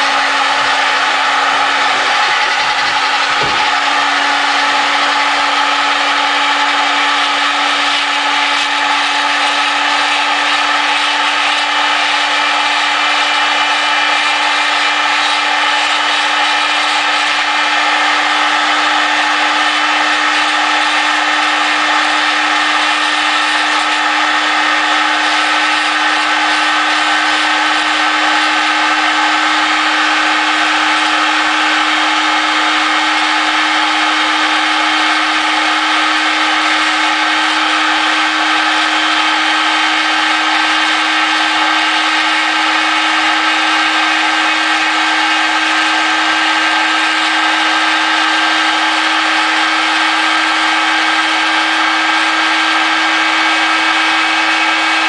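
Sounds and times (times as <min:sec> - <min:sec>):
rotary tool grinding: 0:00.0 - 0:55.0.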